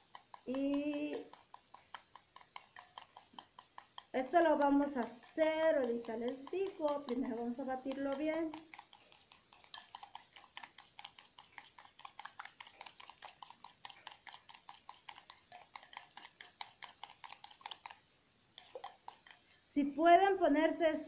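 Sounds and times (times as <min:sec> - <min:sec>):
utensil clicking against bowl: 0:00.0 - 0:18.0, 0:18.6 - 0:19.6.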